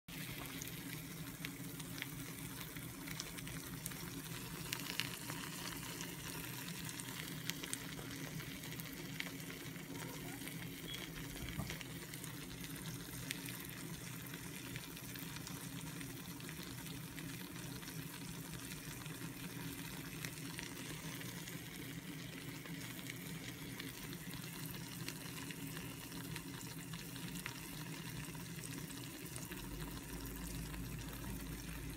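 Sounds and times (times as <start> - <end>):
eggs sizzling in a frying pan: 0.1 - 31.9
small crackles and pops: 0.1 - 31.9.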